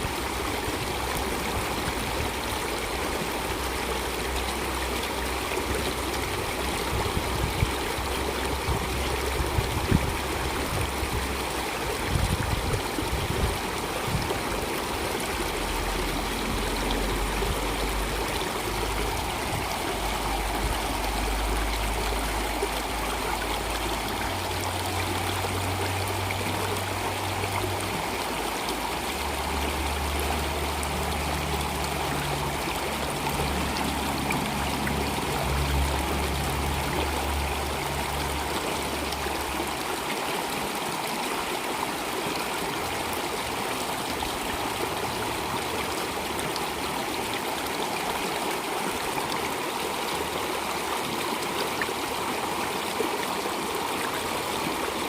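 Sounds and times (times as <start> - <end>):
stream water flowing: 0.0 - 55.0
water splashes: 0.0 - 55.0.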